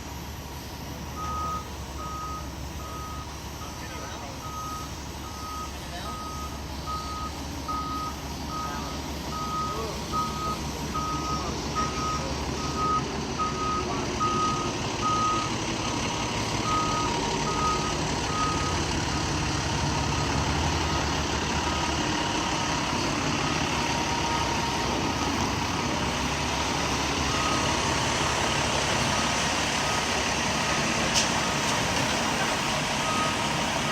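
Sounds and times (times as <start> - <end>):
diesel engine rumble: 0.0 - 33.9
reversing alarm beeping: 1.0 - 33.9.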